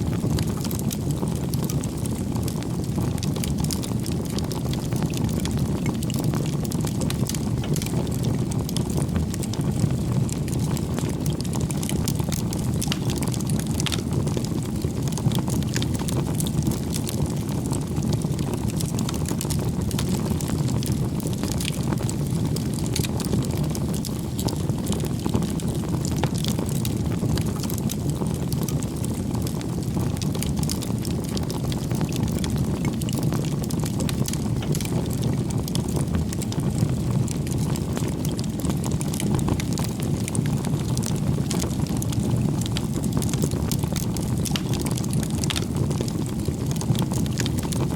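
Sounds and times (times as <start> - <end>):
campfire rumbling: 0.0 - 47.9
firewood crackling and popping: 0.0 - 47.9.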